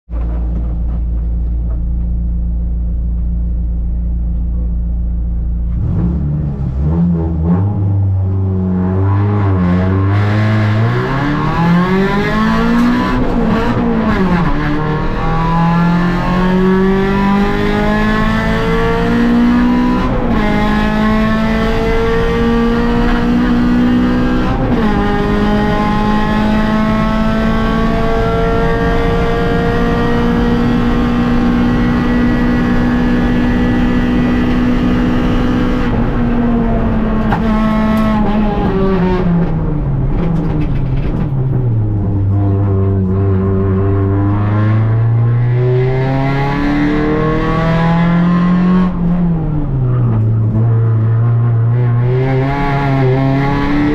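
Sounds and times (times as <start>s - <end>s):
rally car engine revving: 0.1s - 53.9s.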